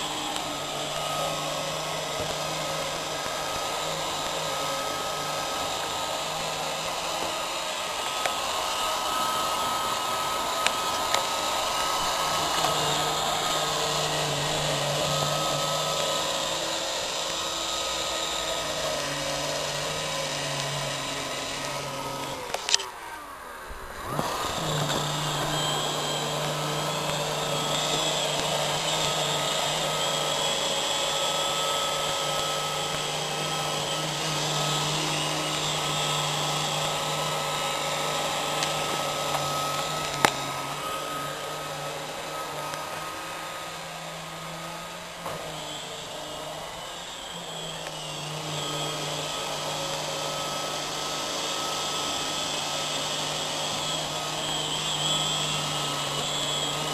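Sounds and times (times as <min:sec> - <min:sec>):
robot vacuum motor whirring: 0:00.0 - 0:56.9.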